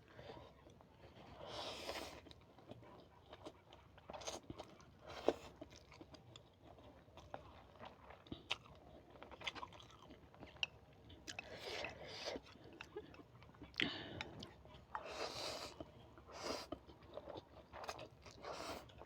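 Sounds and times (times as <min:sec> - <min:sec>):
chewing and crunching: 0:00.1 - 0:19.0.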